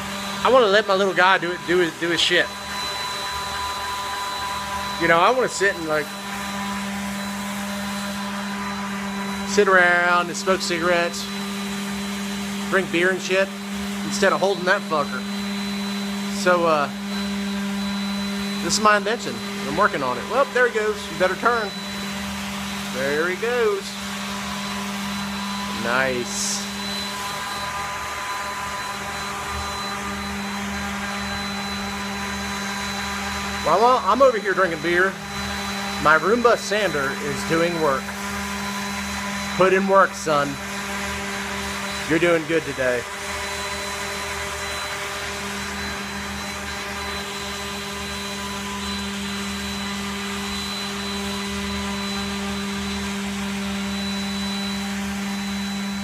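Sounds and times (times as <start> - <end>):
electric sander motor hum: 0.0 - 56.0
thin high whine: 0.0 - 56.0.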